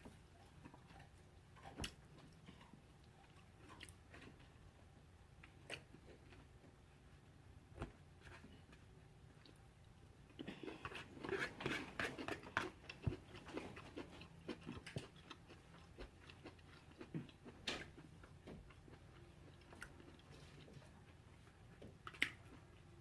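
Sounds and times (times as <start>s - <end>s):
chewing and crunching food: 0.0s - 7.3s, 7.9s - 23.0s.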